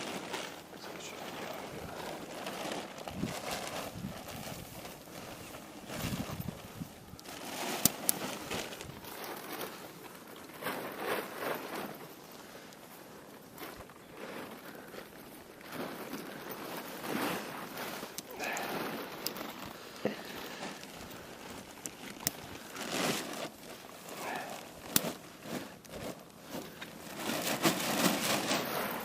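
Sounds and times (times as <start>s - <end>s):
footsteps on ground: 0.0s - 29.0s
nylon fabric rustling: 0.0s - 29.0s
tent poles clicking: 0.0s - 29.0s.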